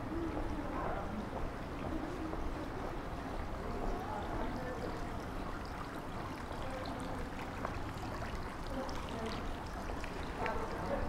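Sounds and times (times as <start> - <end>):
faint distant voices: 0.0 - 11.0.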